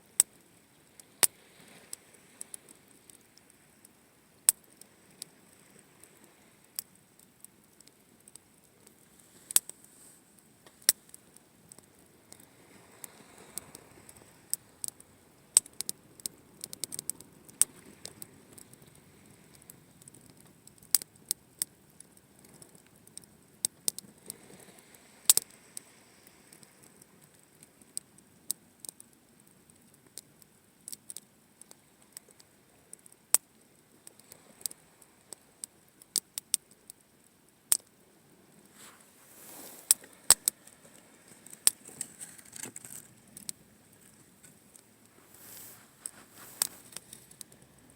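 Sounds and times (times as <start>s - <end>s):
low hiss of burning: 0.0s - 47.9s
campfire crackling and popping: 0.2s - 38.0s, 38.6s - 47.9s.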